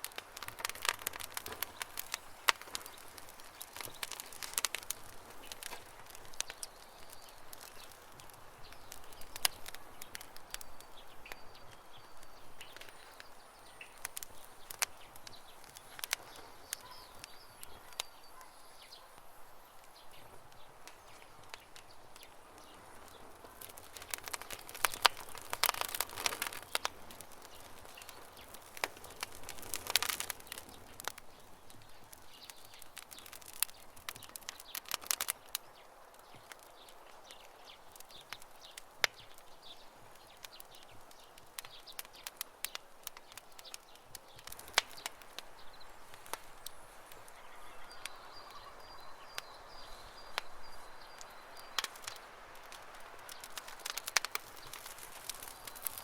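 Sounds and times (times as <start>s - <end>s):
campfire crackling: 0.0s - 56.0s
bird chirping: 0.7s - 42.3s, 43.2s - 52.4s.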